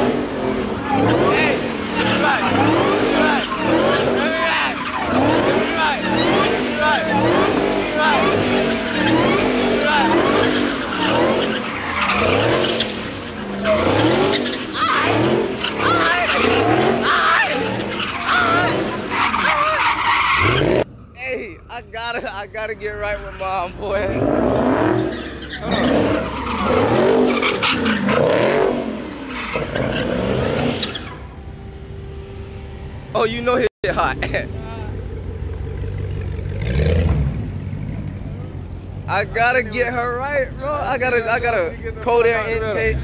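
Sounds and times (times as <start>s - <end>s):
tires squealing: 0.0s - 31.6s, 32.5s - 43.0s
car engines revving: 0.0s - 43.0s.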